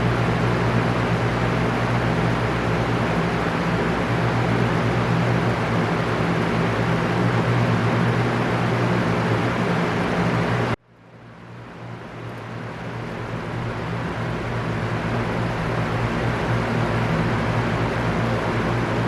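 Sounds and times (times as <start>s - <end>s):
electric fan whoosh: 0.0s - 19.0s
low motor hum: 0.0s - 19.0s.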